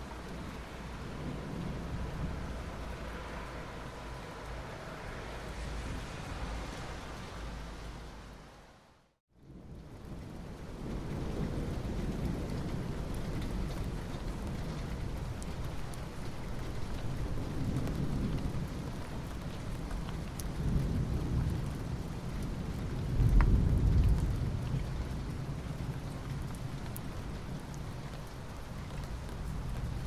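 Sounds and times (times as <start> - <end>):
rain on asphalt: 0.0 - 30.0.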